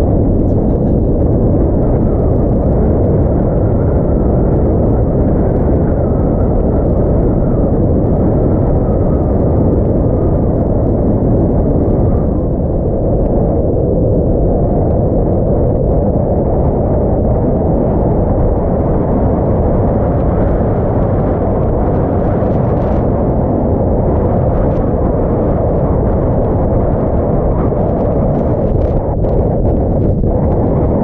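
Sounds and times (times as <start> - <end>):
wind blasting microphone: 0.0 - 31.0.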